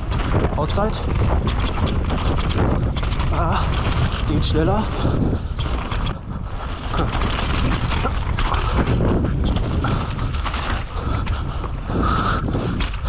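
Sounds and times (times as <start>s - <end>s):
bike clicks and rattles: 0.0s - 13.0s
wind and tyres rumbling: 0.0s - 13.0s.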